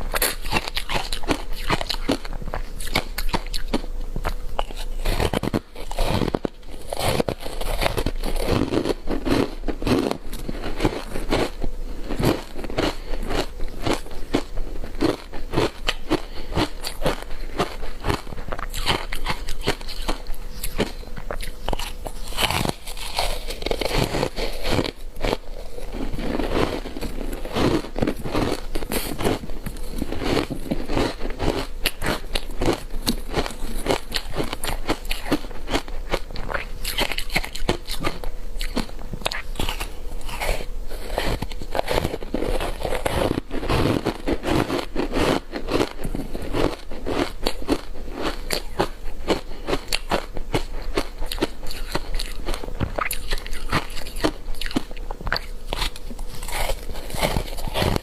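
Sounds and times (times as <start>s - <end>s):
ice crunching between teeth: 0.1s - 58.0s.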